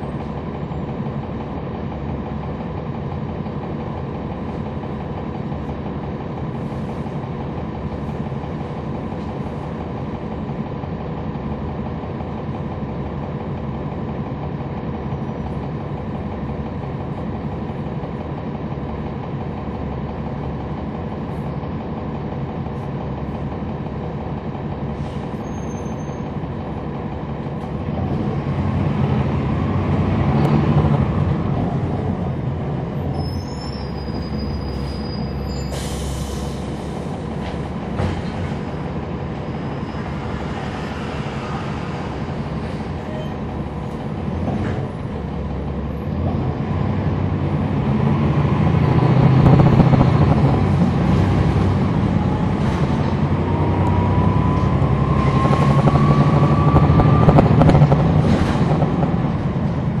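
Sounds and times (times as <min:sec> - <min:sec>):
bus diesel engine running: 0:00.0 - 1:00.0.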